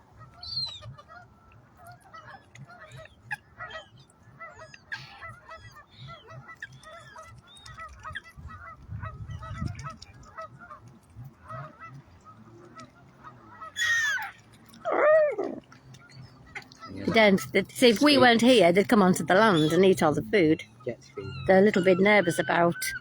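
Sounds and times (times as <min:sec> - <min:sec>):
geese honking: 0:00.1 - 0:23.0.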